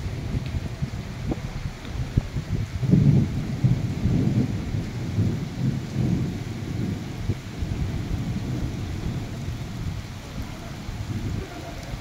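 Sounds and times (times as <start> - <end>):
rain falling on a street: 0.0 - 12.0.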